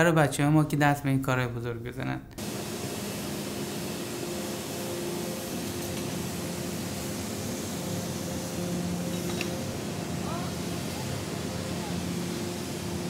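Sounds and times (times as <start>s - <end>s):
engine room machinery drone: 2.4s - 13.0s.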